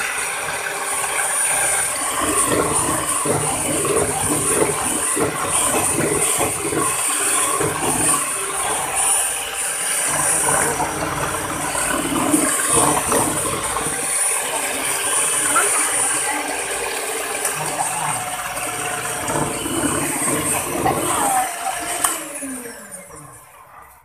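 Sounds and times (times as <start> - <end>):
high motor whine: 0.0 - 23.7
electric hand mixer whisking: 0.0 - 24.0.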